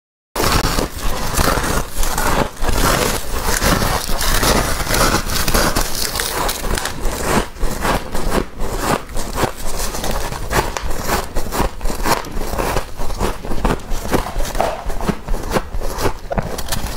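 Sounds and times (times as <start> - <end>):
chewing crunchy frost: 0.4 - 16.9.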